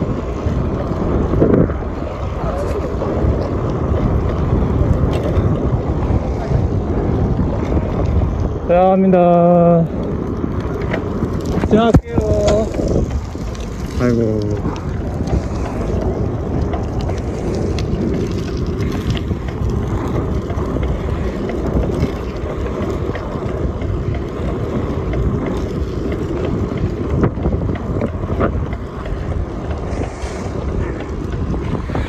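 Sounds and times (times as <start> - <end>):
bicycle tyres on asphalt: 0.0 - 32.0
wind buffeting microphone: 0.0 - 32.0.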